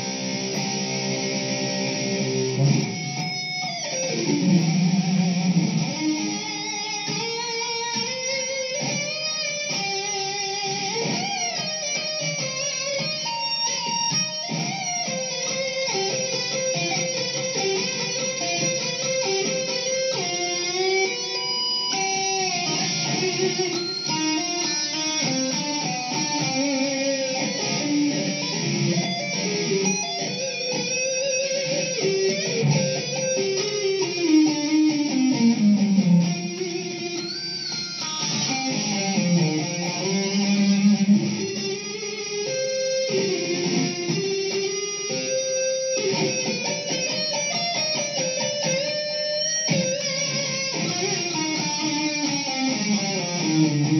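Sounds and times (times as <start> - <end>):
electric guitar lead playing: 0.0 - 53.9.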